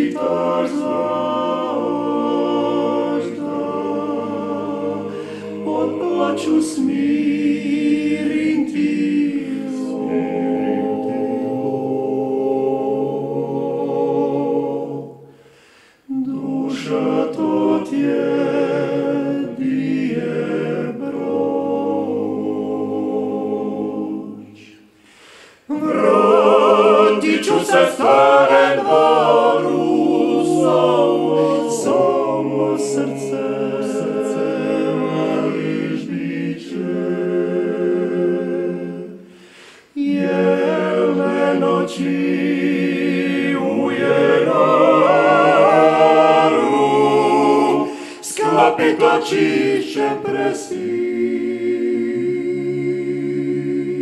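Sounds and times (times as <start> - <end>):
male choir singing a cappella: 0.0 - 54.0.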